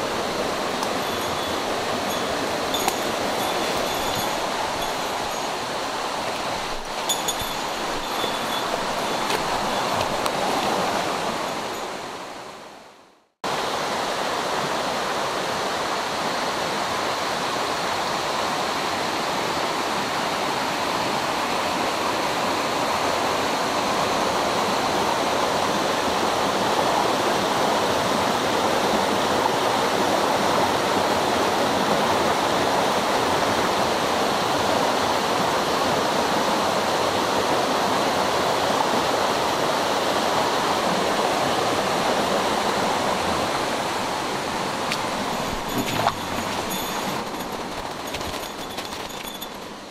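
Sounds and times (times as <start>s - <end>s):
stream rushing over rocks: 0.0s - 12.7s, 13.5s - 49.9s.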